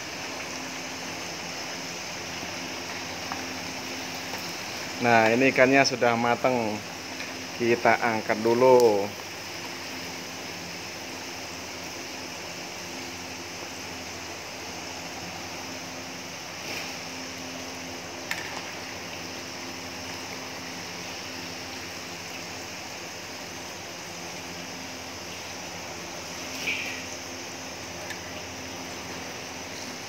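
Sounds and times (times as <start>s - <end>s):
faint steady hum: 0.0s - 30.0s
fish sizzling in hot oil: 0.0s - 30.0s.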